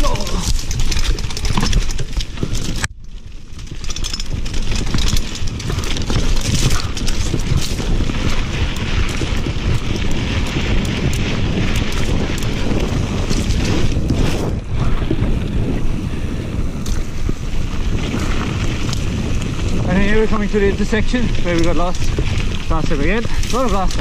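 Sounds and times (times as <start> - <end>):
bike clicking and rattling: 0.0 - 24.0
bike tyres rolling over dirt: 0.0 - 24.0
wind buffeting microphone: 0.0 - 24.0.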